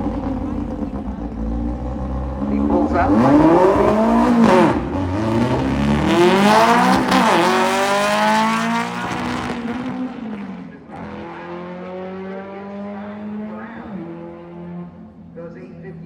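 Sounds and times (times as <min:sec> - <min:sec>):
drag car engine at full throttle: 0:00.0 - 0:15.7.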